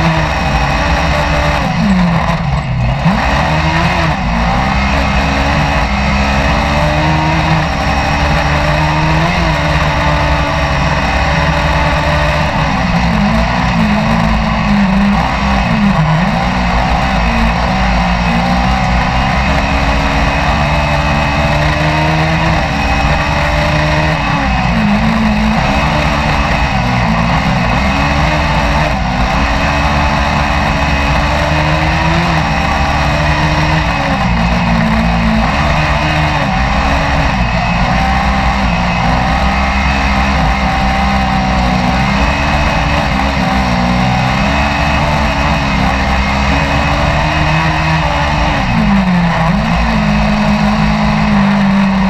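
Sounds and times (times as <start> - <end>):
racing car engine revving: 0.0 - 52.0.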